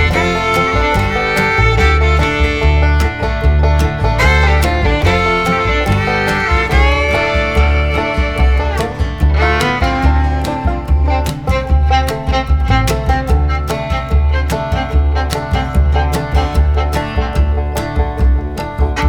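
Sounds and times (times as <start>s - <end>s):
bluegrass music with fiddle: 0.0s - 19.0s.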